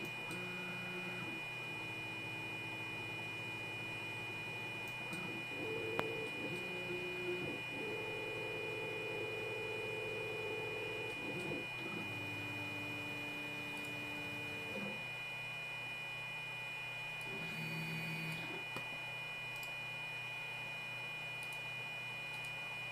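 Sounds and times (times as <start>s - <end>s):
steady high whine: 0.0s - 22.9s.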